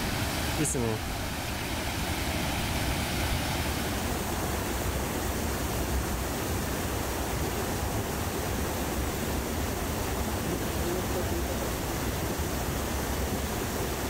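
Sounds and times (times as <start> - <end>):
mountain stream flowing: 0.0 - 14.0.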